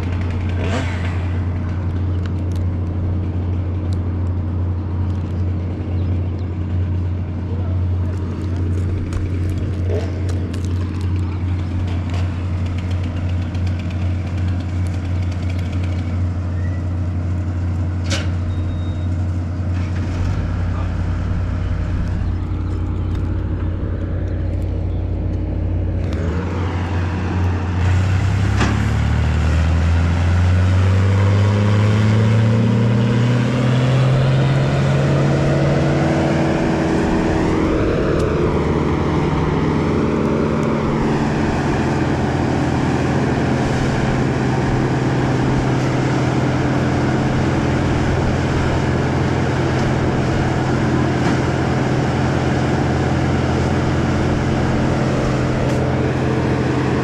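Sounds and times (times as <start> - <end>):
engine running and revving: 0.0 - 57.0.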